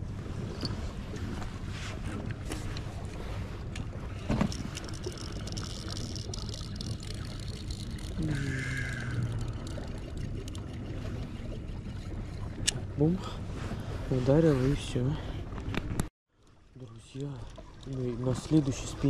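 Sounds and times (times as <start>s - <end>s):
water around a boat: 0.0s - 19.0s
wind: 0.0s - 19.0s.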